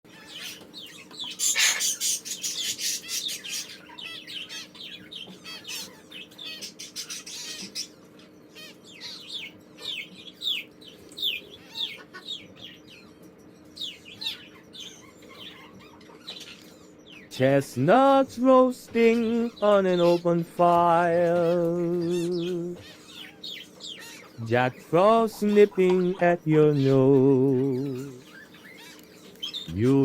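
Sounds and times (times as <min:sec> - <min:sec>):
parrots chirping: 0:00.1 - 0:30.0
steady low hum: 0:00.1 - 0:30.0.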